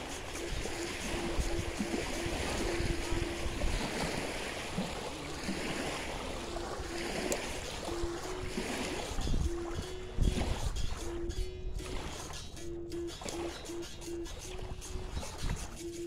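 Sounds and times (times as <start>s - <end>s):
waves lapping at a bank: 0.0s - 16.0s
wind on microphone: 0.0s - 16.0s.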